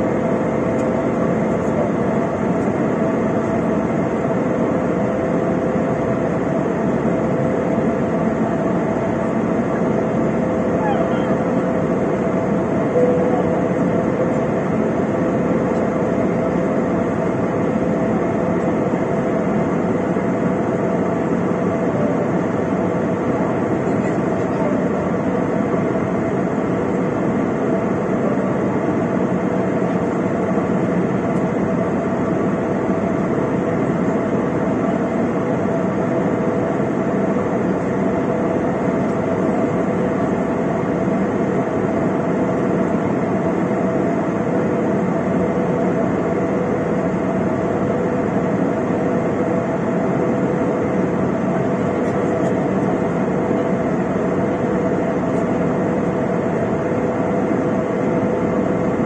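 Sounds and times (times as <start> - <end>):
constant hum tones: 0.0 - 59.0
jet engines and airflow rush: 0.0 - 59.0.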